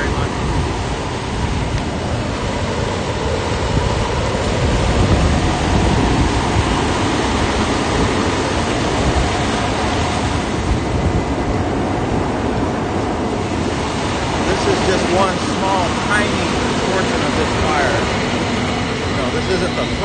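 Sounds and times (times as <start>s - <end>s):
house fire roaring: 0.0s - 20.0s.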